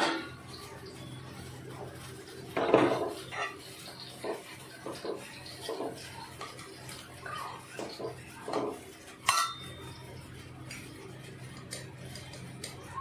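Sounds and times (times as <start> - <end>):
metal spoon scraping a pot: 2.4 - 13.0.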